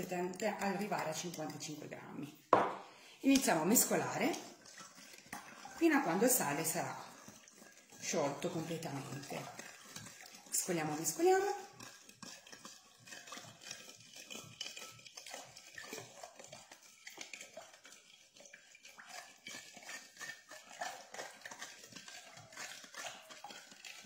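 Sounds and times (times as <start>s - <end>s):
utensil clinking and scraping container: 3.3s - 24.0s.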